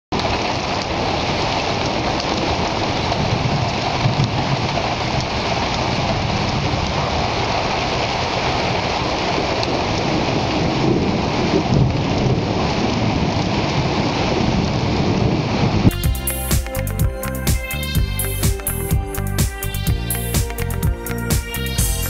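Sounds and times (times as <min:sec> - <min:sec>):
steady rain: 0:00.1 - 0:22.0.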